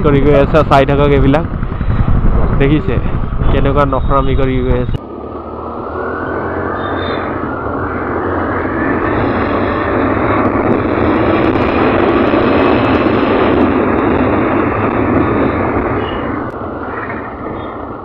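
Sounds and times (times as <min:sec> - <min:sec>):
motorcycle engine at speed: 0:00.0 - 0:18.0
wind rushing: 0:00.0 - 0:18.0.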